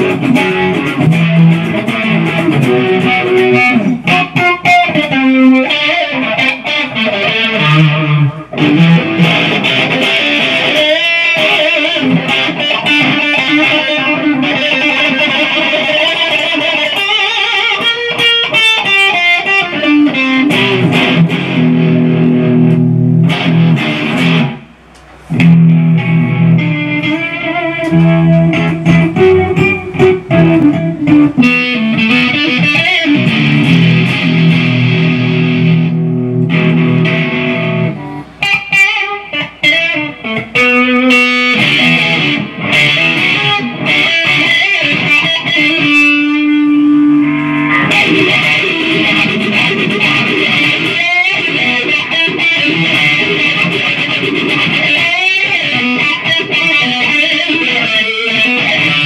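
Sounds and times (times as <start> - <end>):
electric guitar playing: 0.0 - 59.0.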